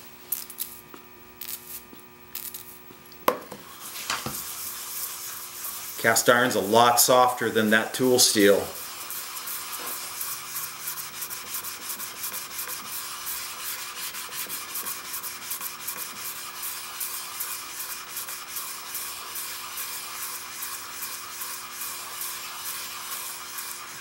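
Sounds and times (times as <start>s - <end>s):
plane scraping on abrasive paper: 3.7s - 24.0s.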